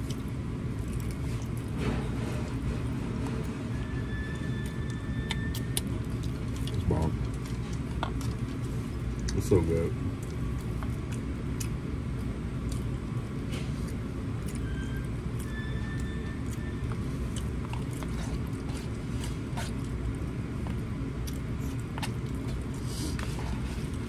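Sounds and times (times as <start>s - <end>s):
chewing: 0.0s - 24.0s
steady low hum: 0.0s - 24.0s.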